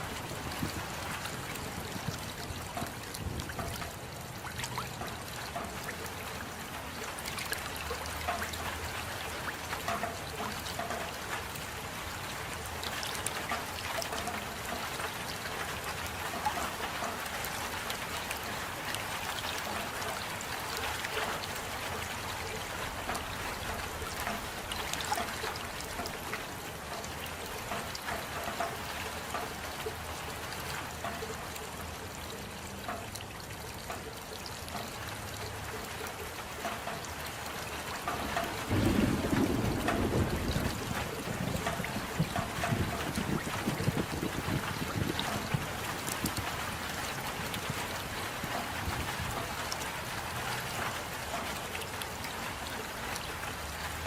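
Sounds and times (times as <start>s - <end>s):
raindrops ticking: 0.0s - 54.0s
steady rain: 0.0s - 54.0s
water trickling: 0.0s - 54.0s.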